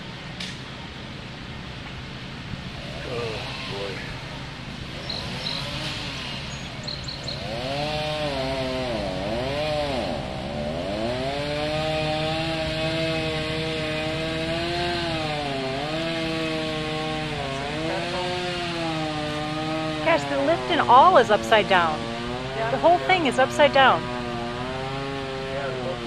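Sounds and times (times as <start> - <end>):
low motor hum: 0.0 - 26.0
chainsaw revving: 2.6 - 26.0.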